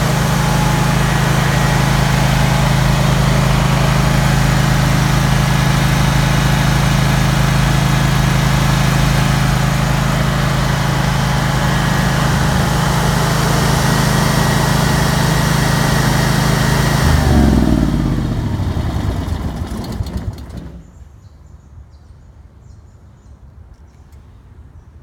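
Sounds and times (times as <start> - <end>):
generator engine running: 0.0 - 21.0.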